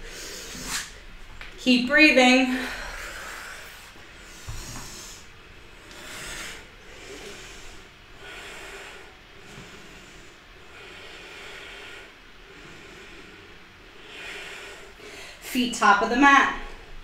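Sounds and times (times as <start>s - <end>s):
woman breathing: 0.0s - 1.4s, 2.2s - 15.6s.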